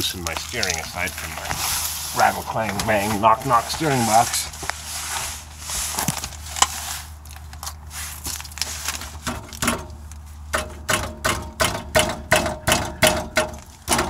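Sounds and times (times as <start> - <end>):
exhaust pipe clanking: 0.0 - 14.0.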